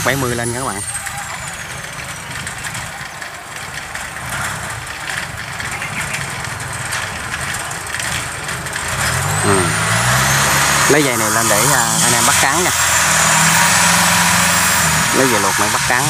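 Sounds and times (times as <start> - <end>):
harvester engine running: 0.0 - 16.0.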